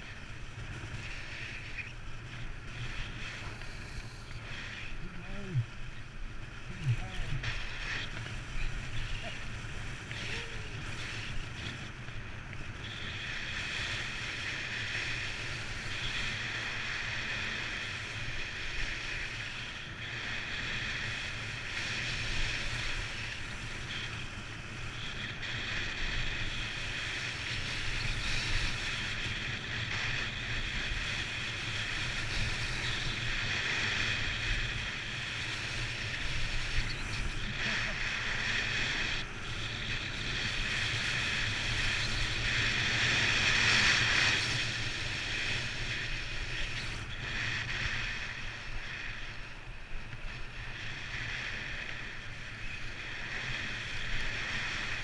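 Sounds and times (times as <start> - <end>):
wind rumble on microphone: 0.0 - 55.0
skis hissing over snow: 0.5 - 5.8, 12.6 - 55.0.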